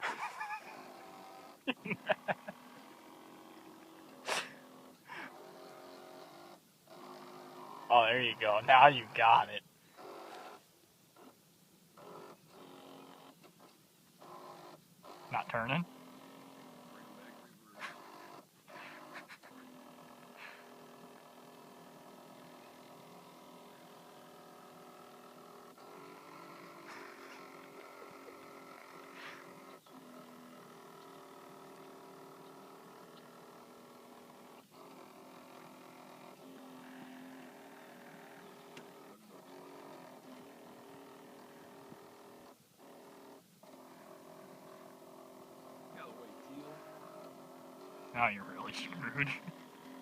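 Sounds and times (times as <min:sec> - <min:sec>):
small electric motor whining: 0:00.0 - 0:50.0.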